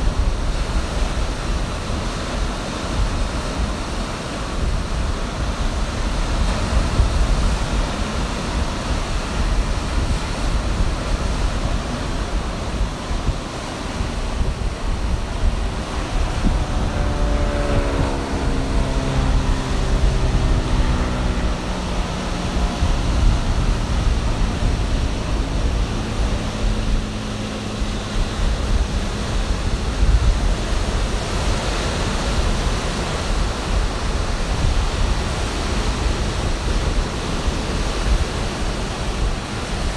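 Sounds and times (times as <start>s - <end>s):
droning engine passing: 0.0s - 39.9s
ocean surf breaking: 0.0s - 39.9s
wind buffeting microphone: 0.0s - 39.9s.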